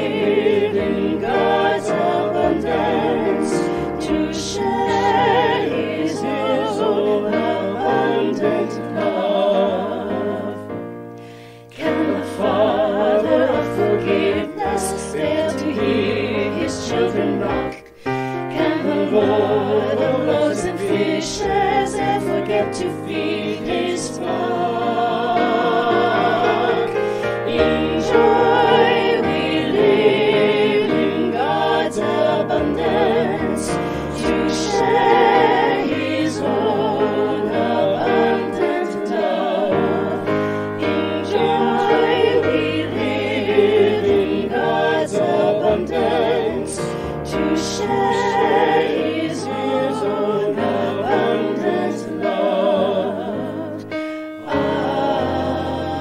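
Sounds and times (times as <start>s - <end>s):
choir singing in harmony: 0.0s - 56.0s
instrumental accompaniment: 0.0s - 56.0s.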